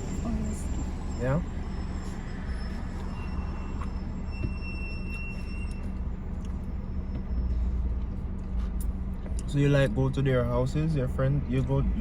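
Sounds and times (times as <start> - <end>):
vehicle low rumble with hum: 0.0 - 12.0.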